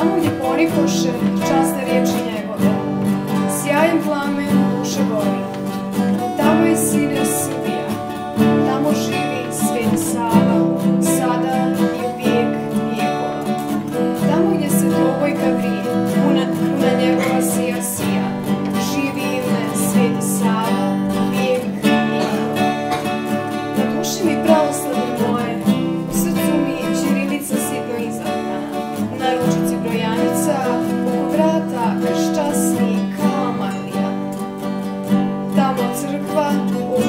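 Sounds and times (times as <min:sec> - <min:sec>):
acoustic guitars strummed: 0:00.0 - 0:37.0
girl singing: 0:00.0 - 0:37.0.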